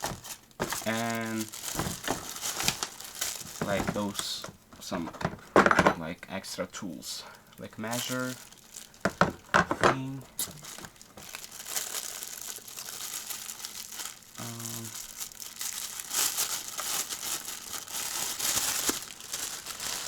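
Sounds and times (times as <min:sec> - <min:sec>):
packaging crinkling and rustling: 0:00.0 - 0:06.0, 0:07.5 - 0:20.0.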